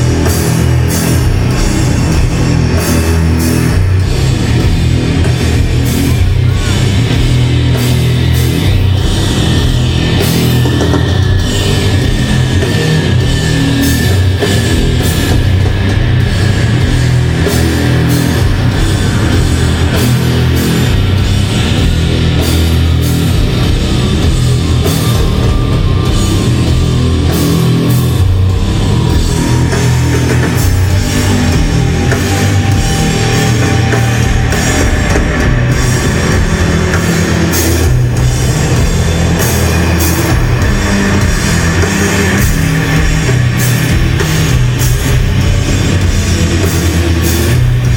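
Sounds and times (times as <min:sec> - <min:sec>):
heavy metal music: 0:00.0 - 0:47.9.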